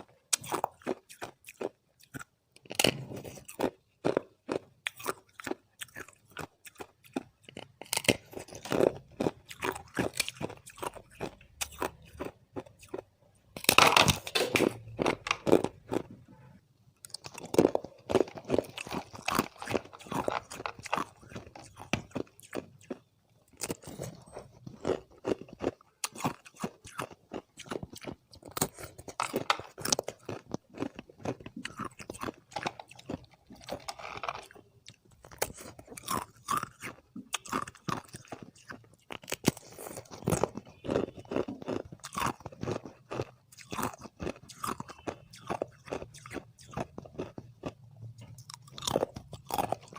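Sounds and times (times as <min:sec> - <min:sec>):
crunching and chewing ice: 0:00.0 - 0:49.9.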